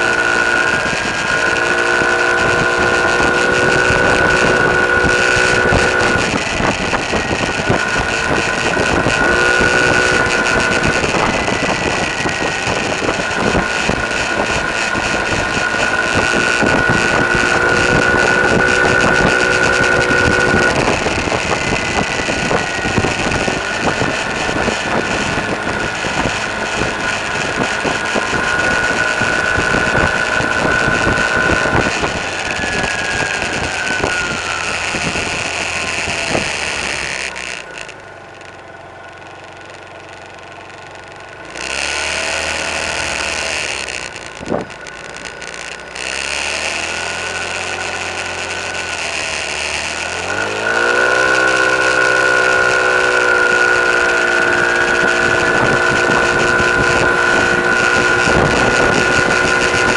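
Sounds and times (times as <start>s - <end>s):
small vehicle engine: 0.0s - 59.9s.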